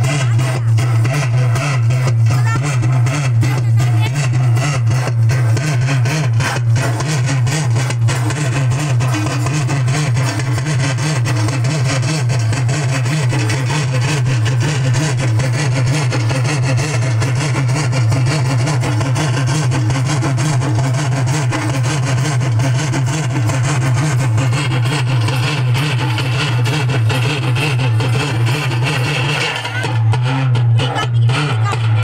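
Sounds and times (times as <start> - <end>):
loud distorted music: 0.0 - 32.0
low drone: 0.0 - 32.0.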